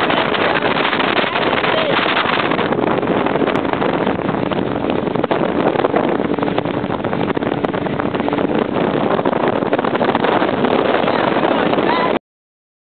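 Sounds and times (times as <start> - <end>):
motorboat engine: 0.0 - 12.2
water rushing past hull: 0.0 - 12.2
wind noise on microphone: 0.0 - 12.2.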